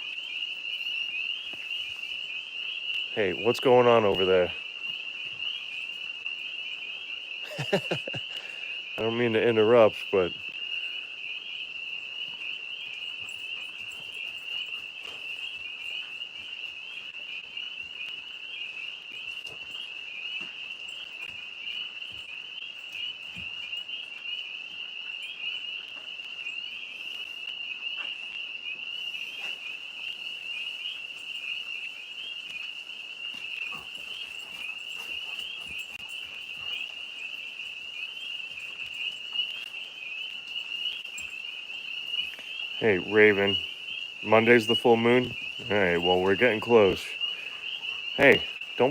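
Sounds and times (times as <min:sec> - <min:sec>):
tree frogs trilling: 0:00.0 - 0:48.9.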